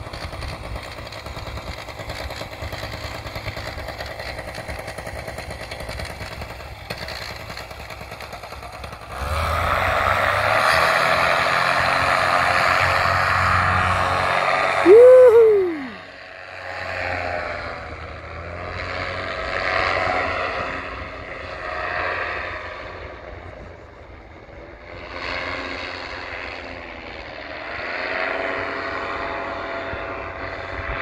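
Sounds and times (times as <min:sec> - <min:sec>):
paramotor engine and propeller: 0:00.0 - 0:31.0.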